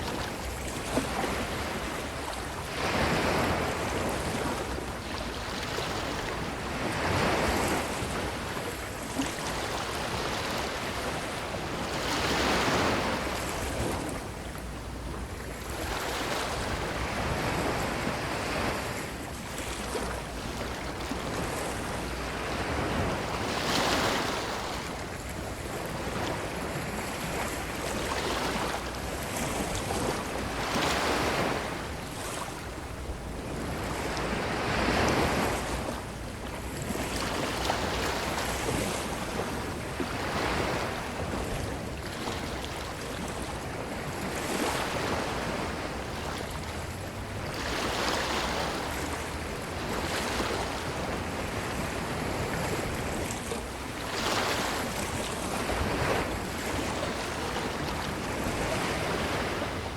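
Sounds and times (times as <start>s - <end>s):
ocean waves on beach: 0.0s - 59.9s.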